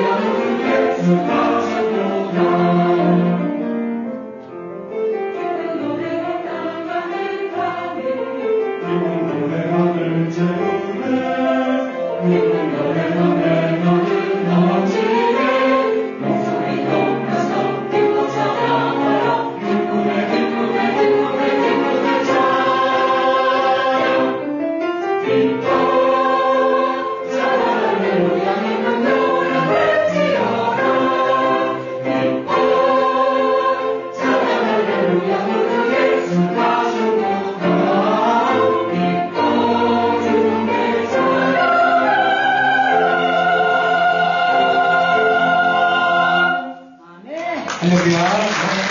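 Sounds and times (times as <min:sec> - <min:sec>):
church choir singing in harmony: 0:00.0 - 0:47.2.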